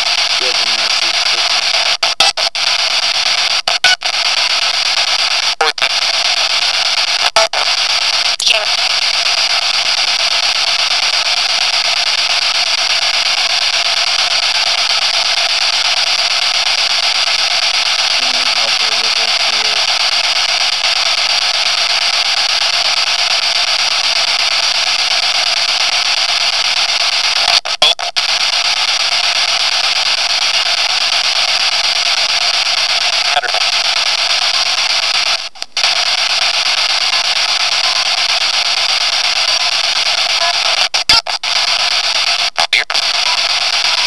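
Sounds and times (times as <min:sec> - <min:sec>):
static hiss: 0:00.0 - 0:44.0.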